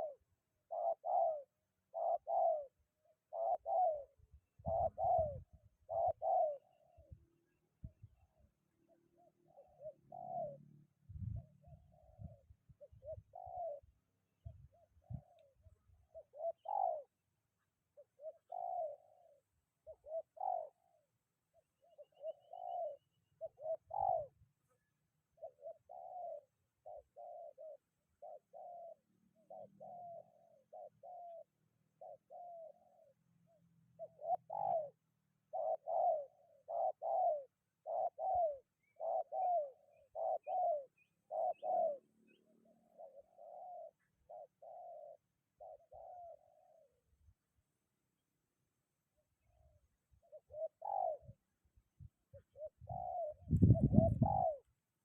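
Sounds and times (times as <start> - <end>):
dove cooing: 0.0 - 47.6, 49.0 - 55.0.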